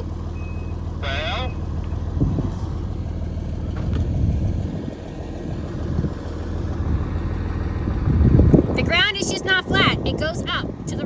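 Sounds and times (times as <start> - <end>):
large vehicle engine idling: 0.0 - 11.0
low rumbles: 0.0 - 11.0.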